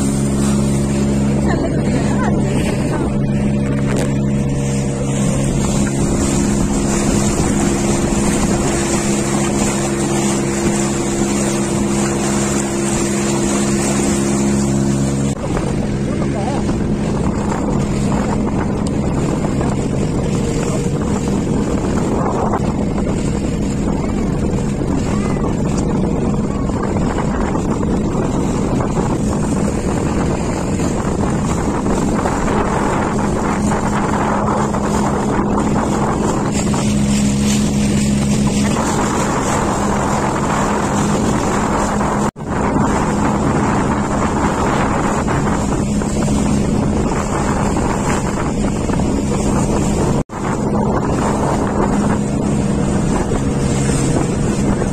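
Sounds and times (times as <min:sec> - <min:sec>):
motorboat engine humming: 0:00.0 - 0:54.9
water splashing at hull: 0:00.0 - 0:54.9
wind on microphone: 0:00.0 - 0:54.9.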